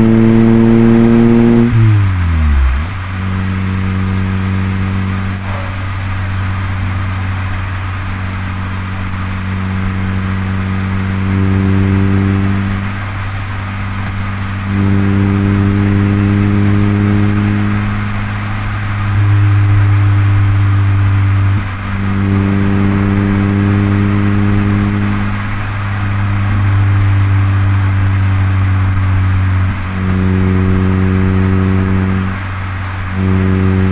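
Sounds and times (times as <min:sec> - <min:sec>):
car engine pulling while driving: 0:00.0 - 0:33.9.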